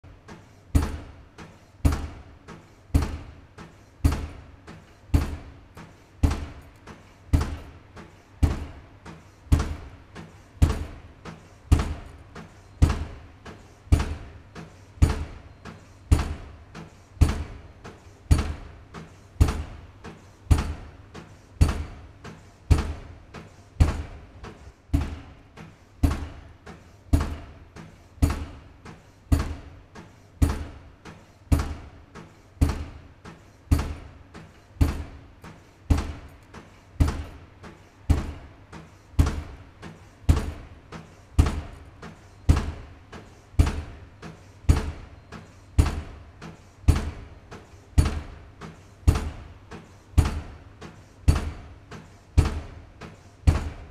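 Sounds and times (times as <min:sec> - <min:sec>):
pile driver hammer pounding: 0:00.0 - 0:53.9.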